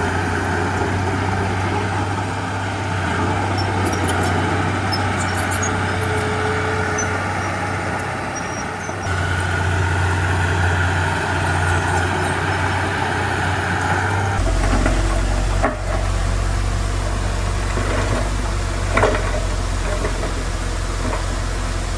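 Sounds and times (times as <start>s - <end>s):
heavy diesel machinery running: 0.0s - 21.9s.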